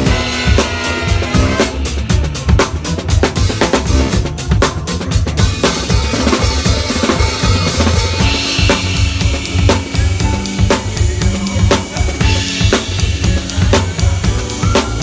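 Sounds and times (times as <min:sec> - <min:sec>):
bass and held notes: 0:00.0 - 0:15.0
funk drum groove: 0:00.0 - 0:15.0.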